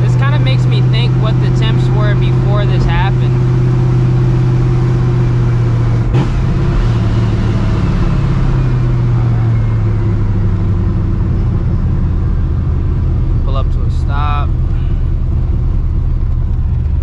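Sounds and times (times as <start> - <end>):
car engine cruising: 0.0 - 17.0.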